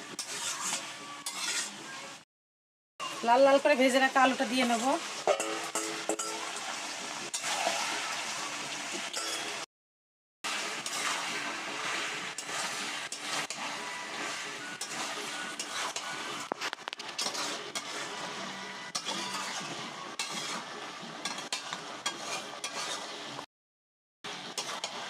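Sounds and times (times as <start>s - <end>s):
metal spatula scraping a pan: 0.0s - 2.0s, 3.9s - 8.1s, 9.1s - 9.6s, 10.5s - 23.4s, 24.3s - 25.0s
food sizzling in a pan: 0.0s - 2.2s, 3.0s - 9.7s, 10.5s - 23.4s, 24.3s - 25.0s.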